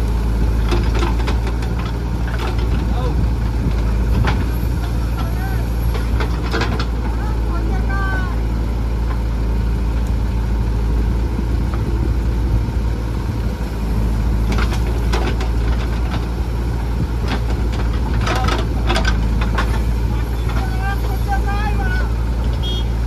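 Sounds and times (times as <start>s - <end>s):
diesel engine running: 0.0s - 23.0s
tractor engine idling: 0.0s - 23.0s.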